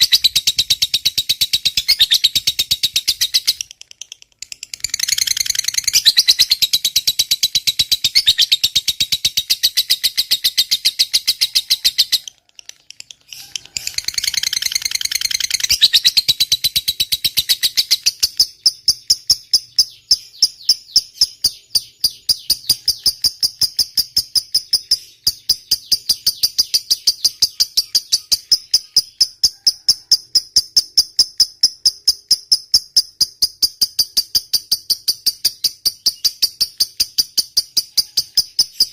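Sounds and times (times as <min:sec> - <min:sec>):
lovebird chattering trill: 0:00.0 - 0:38.9.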